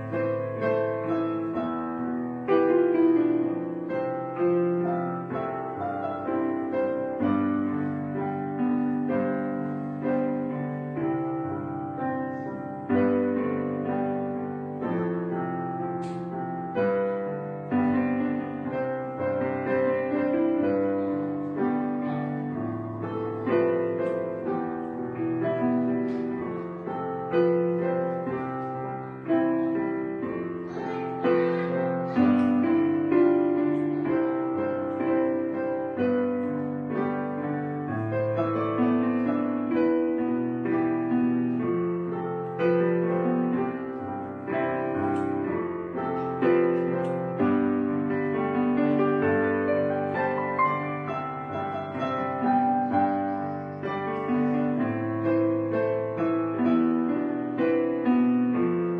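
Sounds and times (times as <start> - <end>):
piano chords: 0.0 - 58.9.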